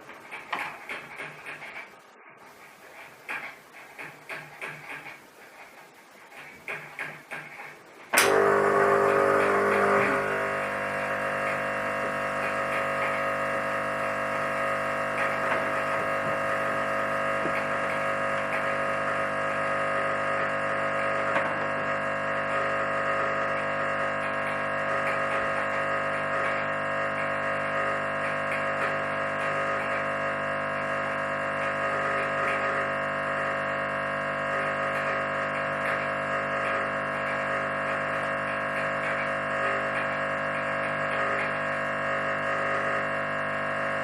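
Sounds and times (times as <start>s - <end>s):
espresso machine pump humming: 8.2s - 44.0s.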